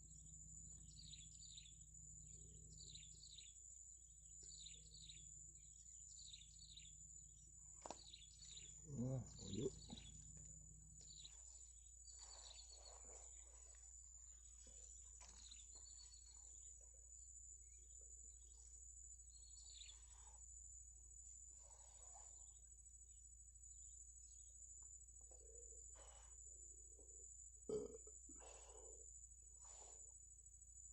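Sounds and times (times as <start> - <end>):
faint bird chirps: 0.0 - 30.9
high-pitched insect drone: 0.0 - 30.9.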